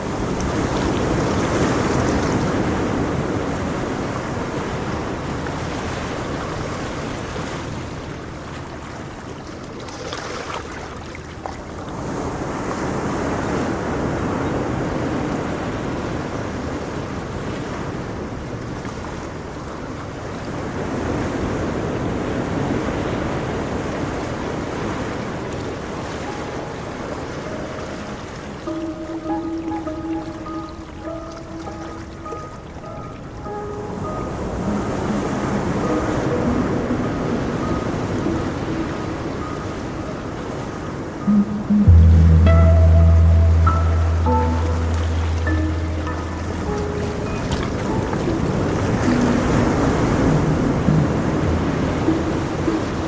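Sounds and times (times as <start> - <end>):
waves breaking on shore: 0.0 - 53.0.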